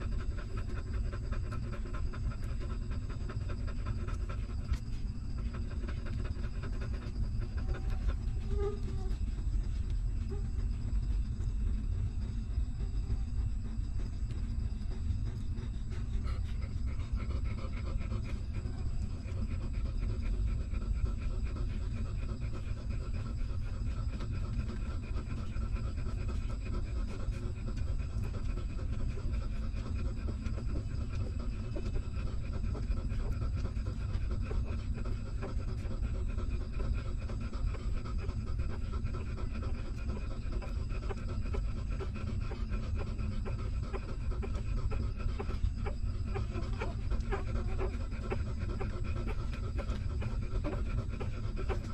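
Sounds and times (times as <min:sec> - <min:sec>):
dog panting: 0:00.0 - 0:51.9
steady low hum: 0:00.0 - 0:51.9.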